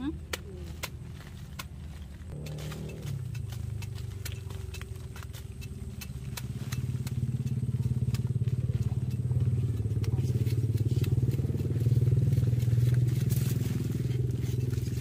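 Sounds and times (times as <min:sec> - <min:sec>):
knife cutting roots ticks: 0:00.3 - 0:13.6
small engine idling: 0:01.4 - 0:15.0.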